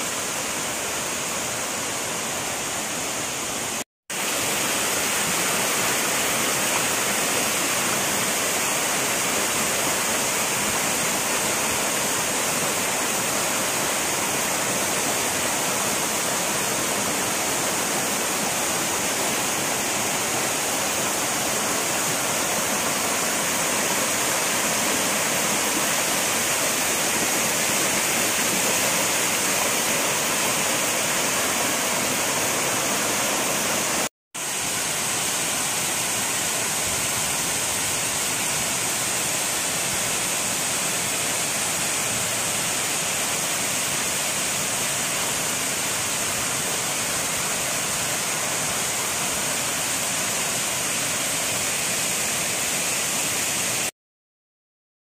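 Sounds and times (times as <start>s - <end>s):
waterfall rushing over rocks: 0.0s - 53.9s.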